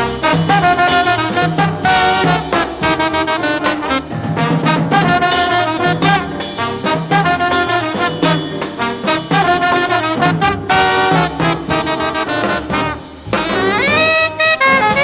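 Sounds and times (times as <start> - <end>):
held horn notes: 0.0 - 15.0
jazz band playing: 0.0 - 15.0.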